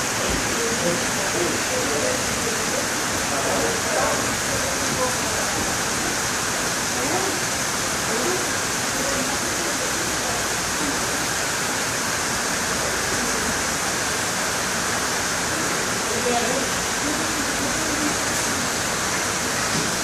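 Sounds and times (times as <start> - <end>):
heavy rain on foliage: 0.0 - 20.0.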